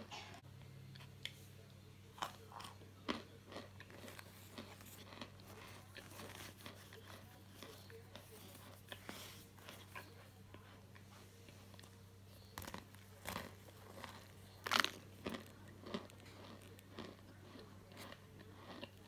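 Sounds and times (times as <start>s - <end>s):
dried starch crunching: 2.2s - 19.0s.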